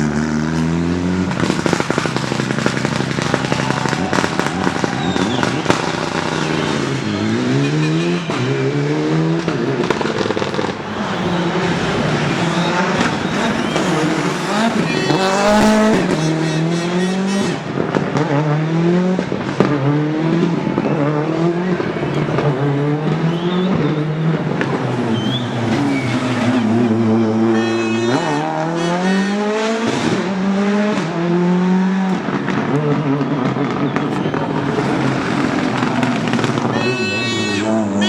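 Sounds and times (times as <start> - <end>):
car engine revving hard: 0.0 - 38.0.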